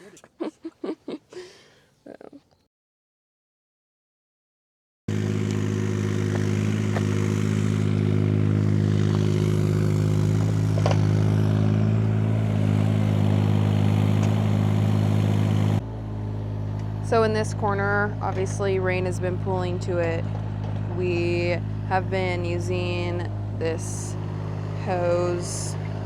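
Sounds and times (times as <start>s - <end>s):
engine humming steadily: 5.1s - 26.0s.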